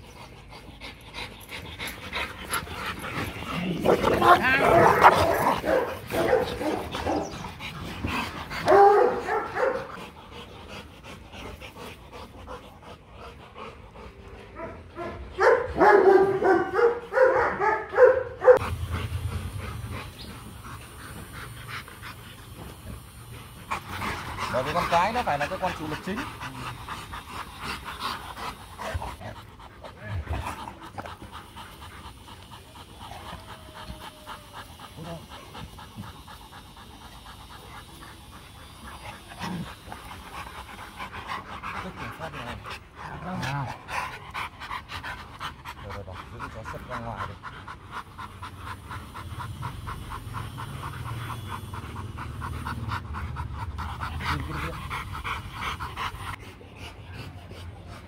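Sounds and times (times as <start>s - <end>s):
dogs panting: 0.0s - 58.0s.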